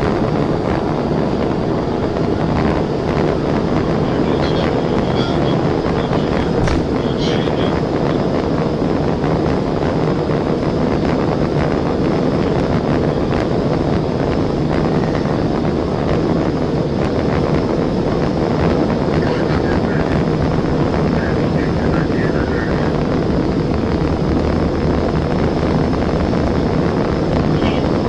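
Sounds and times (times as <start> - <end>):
car engine at high speed: 0.0 - 28.0
wind noise: 0.0 - 28.0.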